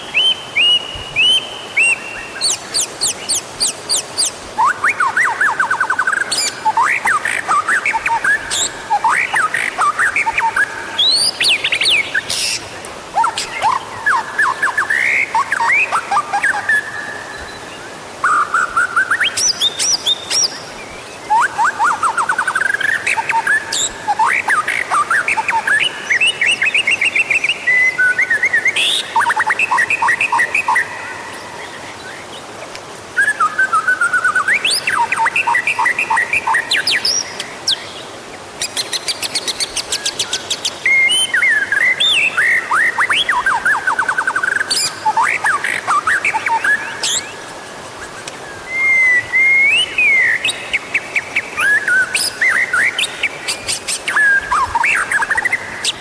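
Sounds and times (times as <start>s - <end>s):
songbird singing trills and whistles: 0.0s - 12.6s, 13.2s - 31.2s, 33.2s - 47.4s, 48.0s - 56.0s.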